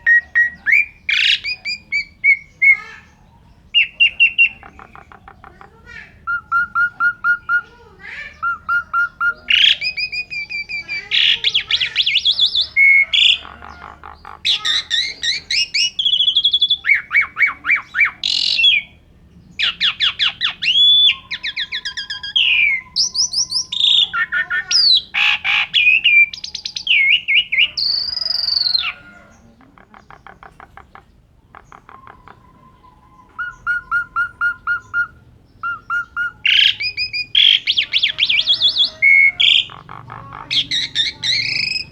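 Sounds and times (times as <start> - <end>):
starling singing: 0.0 - 41.9.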